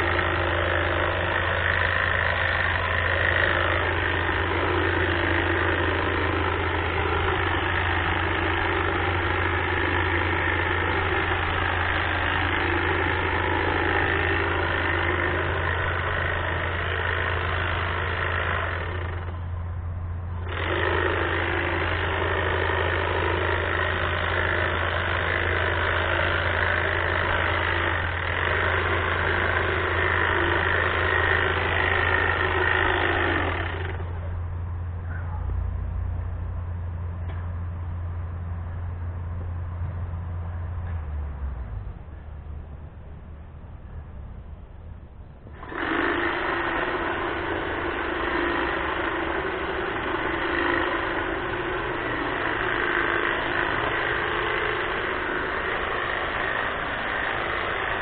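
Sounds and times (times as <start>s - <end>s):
hedge trimmer running: 0.0s - 34.4s, 45.4s - 58.0s
steady low hum: 0.0s - 58.0s.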